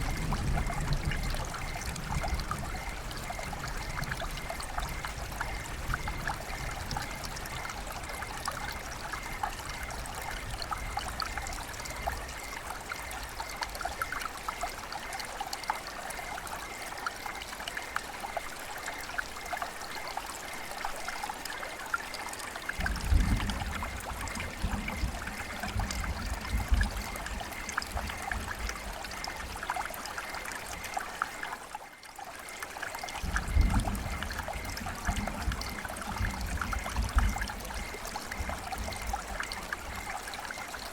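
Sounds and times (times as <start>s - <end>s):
river water flowing: 0.0s - 40.9s
small water splashes: 0.0s - 40.9s.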